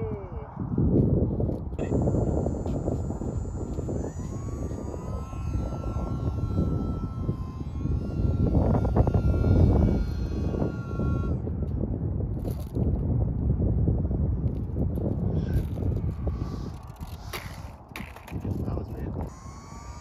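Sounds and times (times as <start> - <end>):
wind rumble on microphone: 0.0 - 20.0
electric motor whining: 1.5 - 13.1, 14.0 - 20.0.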